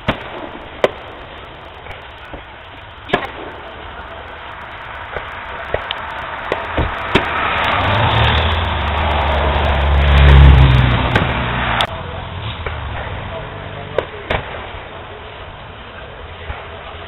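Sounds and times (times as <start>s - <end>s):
fireworks popping and cracking: 0.0s - 17.0s
low rumble and hiss: 0.0s - 17.0s.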